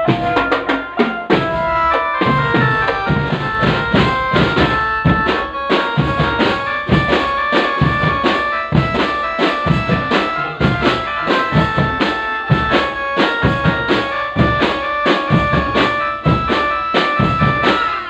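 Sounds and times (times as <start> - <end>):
music with driving drum beat: 0.0 - 18.0.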